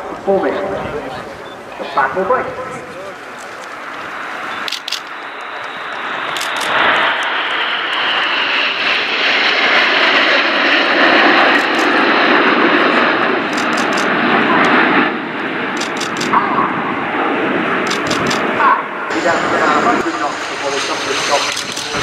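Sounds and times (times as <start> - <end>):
jets flying past: 0.0 - 22.0.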